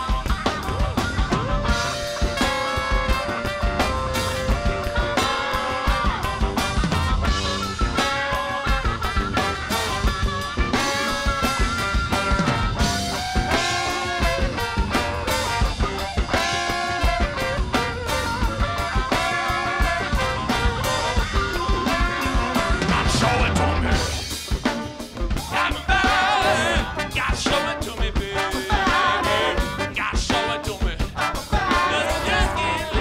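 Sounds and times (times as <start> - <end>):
drum kit: 0.0 - 33.0
electric guitar: 0.0 - 33.0
harmonica solo: 0.0 - 33.0.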